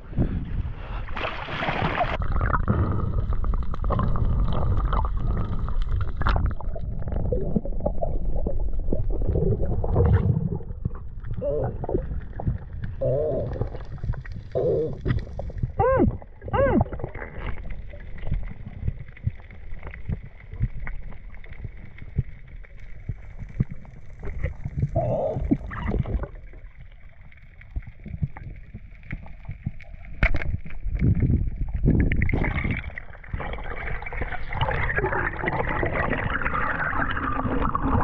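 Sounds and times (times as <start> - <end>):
underwater rumble of moving water: 0.0 - 38.0
water gurgle: 0.0 - 38.0
underwater clicks and crackles: 0.8 - 38.0.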